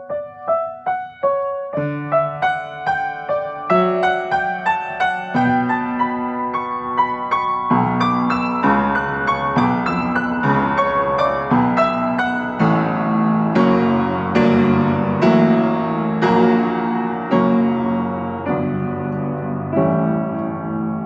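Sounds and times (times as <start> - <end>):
solo piano improvisation: 0.0 - 21.0.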